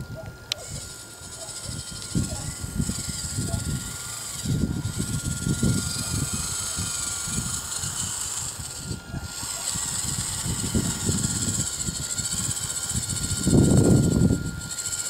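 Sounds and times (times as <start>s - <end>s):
insects buzzing: 0.0s - 15.0s
thin steady tone: 0.0s - 15.0s
wind rumbling on microphone: 1.6s - 15.0s.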